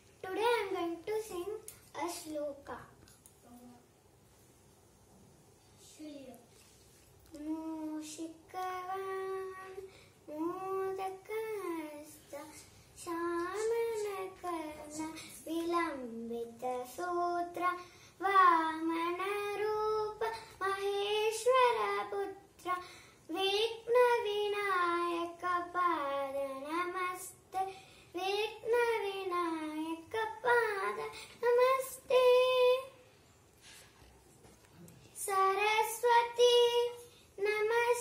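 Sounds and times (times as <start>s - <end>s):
girl singing unaccompanied: 0.0s - 4.0s, 7.3s - 33.1s, 35.0s - 38.0s.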